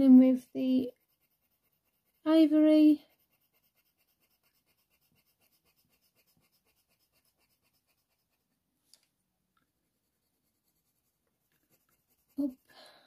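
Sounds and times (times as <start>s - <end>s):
pencil scratching on paper: 0.0s - 8.6s, 9.8s - 12.7s.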